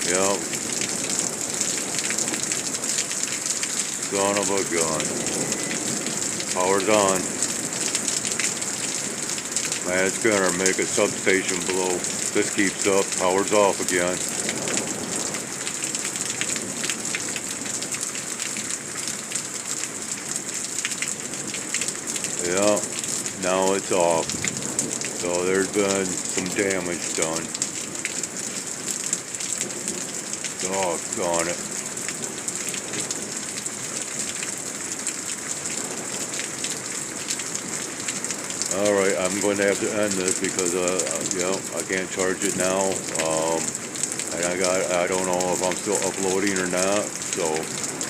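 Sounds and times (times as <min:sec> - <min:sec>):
rain falling steadily: 0:00.0 - 0:48.0
sharp raindrop hits: 0:00.0 - 0:48.0.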